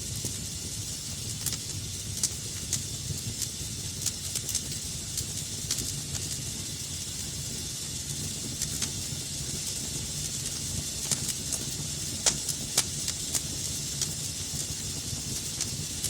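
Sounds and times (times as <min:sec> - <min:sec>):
wood fire crackling: 0:00.0 - 0:16.0
sharp pops of burning wood: 0:01.3 - 0:07.4, 0:08.0 - 0:15.8.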